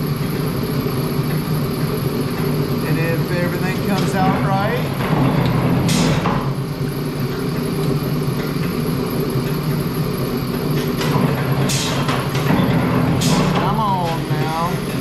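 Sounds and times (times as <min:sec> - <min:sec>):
pump motor humming: 0:00.0 - 0:15.0.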